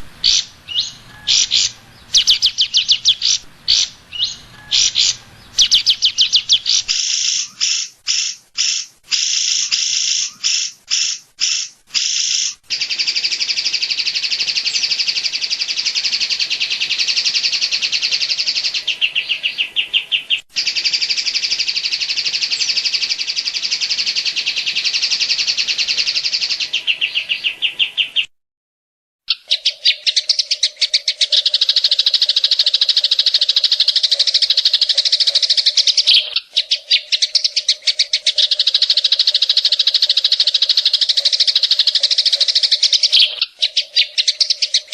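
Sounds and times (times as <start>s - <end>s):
bird song with fast trills: 0.0s - 28.3s, 29.3s - 44.9s.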